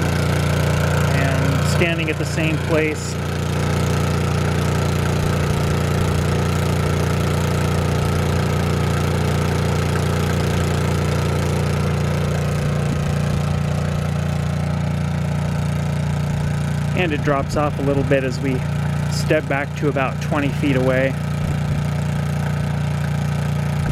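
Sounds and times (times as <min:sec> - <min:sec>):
generator engine hum: 0:00.0 - 0:23.9.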